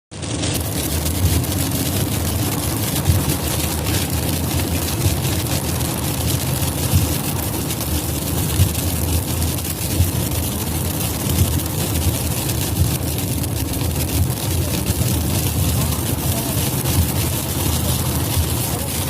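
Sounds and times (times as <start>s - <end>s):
hailstones clattering: 0.1s - 19.0s
steady low rumble: 0.2s - 19.0s.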